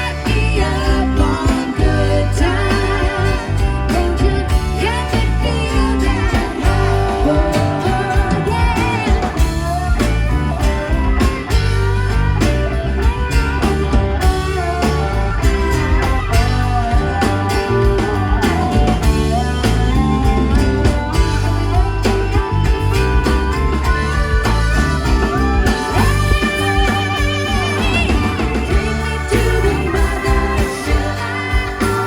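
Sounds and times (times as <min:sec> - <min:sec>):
bass: 0:00.0 - 0:32.0
drums: 0:00.0 - 0:32.0
lead guitar with bending notes: 0:00.0 - 0:32.0.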